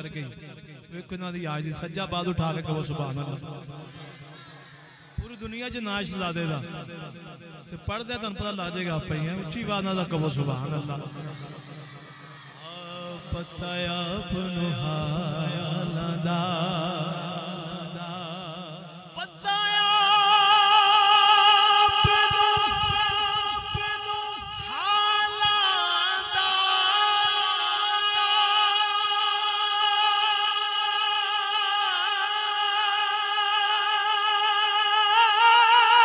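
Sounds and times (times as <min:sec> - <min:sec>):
man singing through a microphone: 0:00.0 - 0:04.0, 0:05.2 - 0:11.6, 0:12.6 - 0:36.0.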